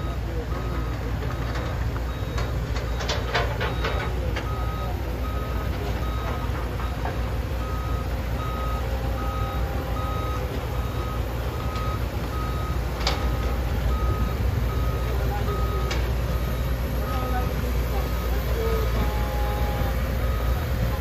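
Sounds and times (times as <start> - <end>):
backup alarm beeping: 0.0 - 21.0
heavy machinery rumbling: 0.0 - 21.0.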